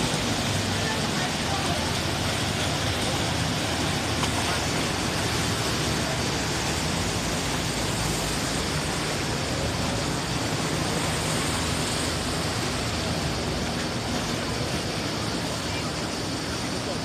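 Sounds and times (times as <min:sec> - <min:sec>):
boat engine drone: 0:00.0 - 0:17.0
water wash: 0:00.0 - 0:17.0.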